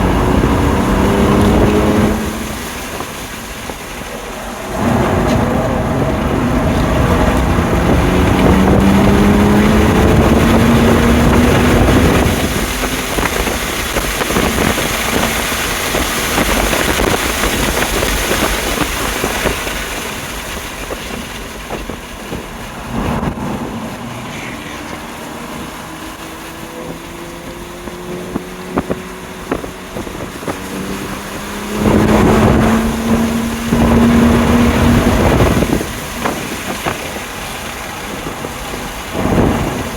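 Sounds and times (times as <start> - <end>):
car engine under full throttle: 0.0 - 39.9
wind and tyre noise: 0.0 - 39.9.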